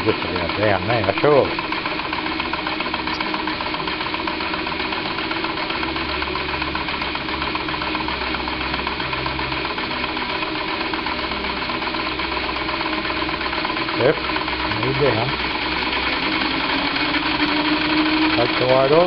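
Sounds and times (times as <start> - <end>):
model steam engine running: 0.0 - 19.0.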